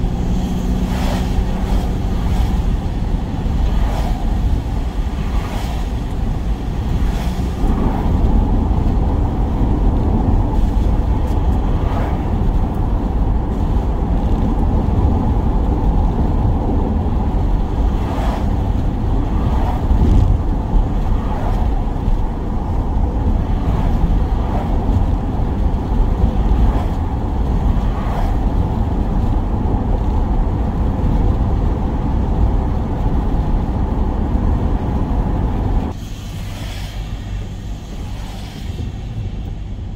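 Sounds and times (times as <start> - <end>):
road noise: 0.0 - 39.9
van engine rumble: 0.0 - 39.9.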